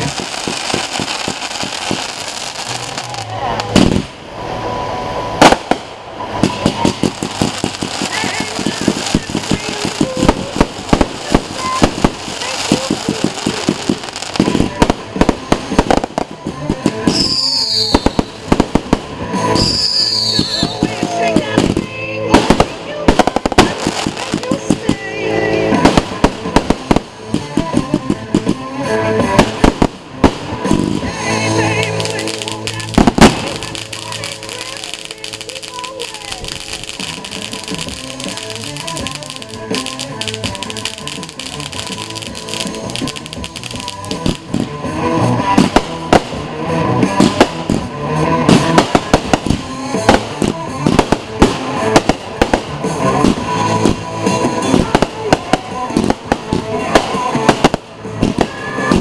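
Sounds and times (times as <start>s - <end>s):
music: 0.0s - 3.8s, 6.4s - 59.0s
fireworks bangs and cracks: 0.0s - 59.0s.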